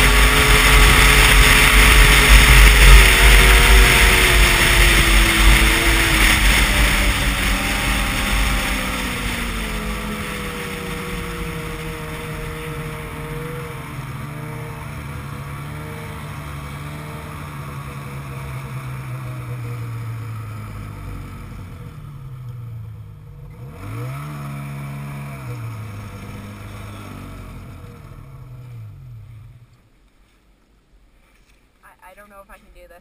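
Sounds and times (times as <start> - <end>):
snowmobile engine: 0.0 - 29.8.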